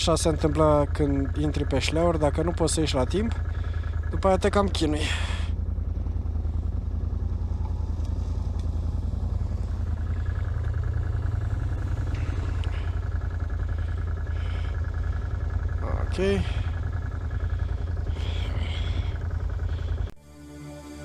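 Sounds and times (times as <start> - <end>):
engine running at low revs: 0.0 - 21.0.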